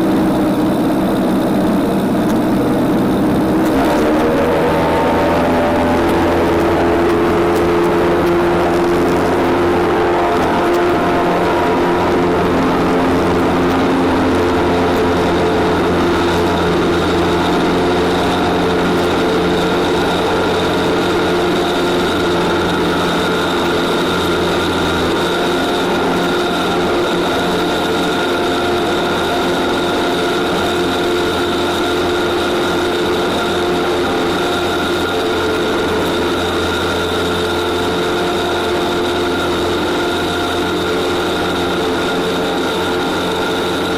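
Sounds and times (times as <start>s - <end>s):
light aircraft engine drone: 0.0s - 43.9s.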